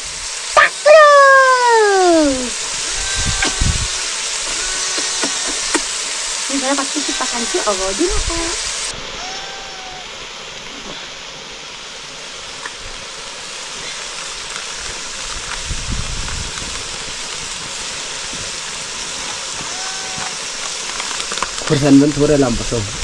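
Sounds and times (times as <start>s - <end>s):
curry sizzling in a wok: 0.0s - 23.0s.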